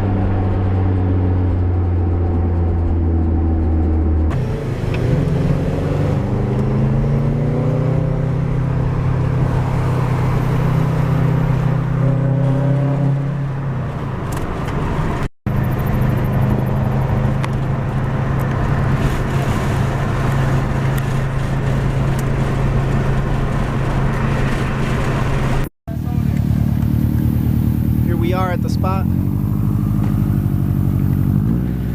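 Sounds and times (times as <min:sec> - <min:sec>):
car engine running: 0:00.0 - 0:31.9
road and wind noise: 0:00.0 - 0:31.9.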